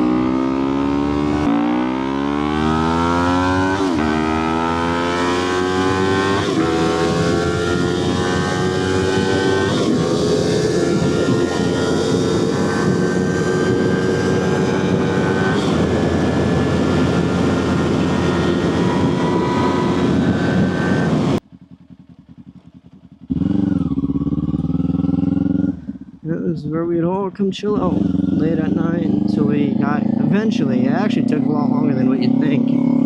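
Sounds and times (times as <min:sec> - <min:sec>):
motorcycle engine running: 0:00.0 - 0:26.6, 0:27.6 - 0:33.0.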